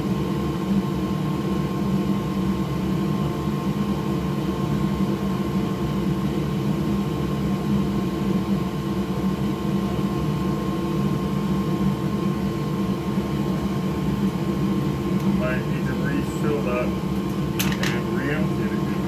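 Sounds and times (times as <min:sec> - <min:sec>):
electric blower fan whirring: 0:00.0 - 0:19.0.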